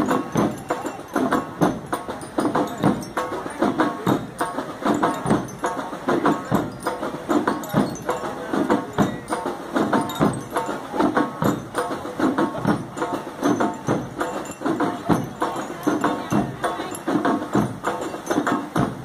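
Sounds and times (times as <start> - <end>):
bell lyres ringing a tune: 0.0 - 19.0
snare and bass drums beating: 0.0 - 19.0.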